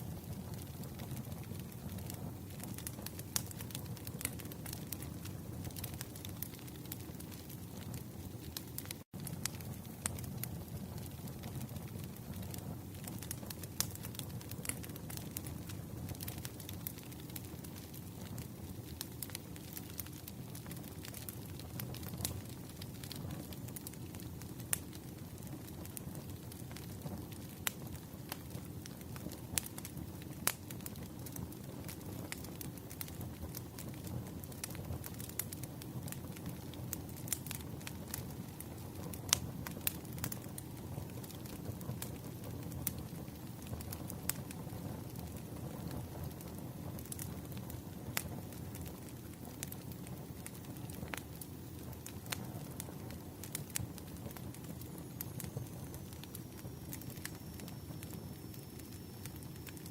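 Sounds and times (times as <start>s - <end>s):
fireplace fire crackling: 0.0s - 59.9s.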